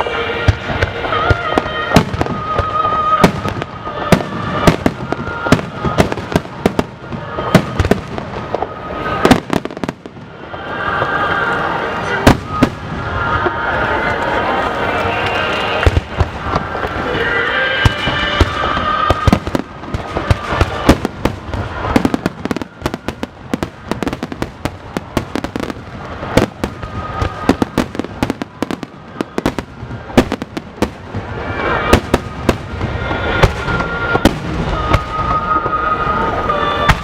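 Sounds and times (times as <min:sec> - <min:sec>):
fireworks bursts and crackling: 0:00.0 - 0:37.0.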